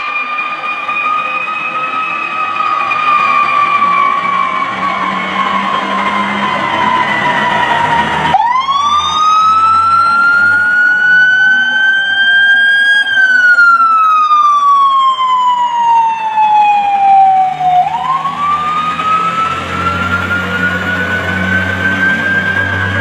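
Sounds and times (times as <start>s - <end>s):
fire truck siren winding: 0.0s - 23.0s.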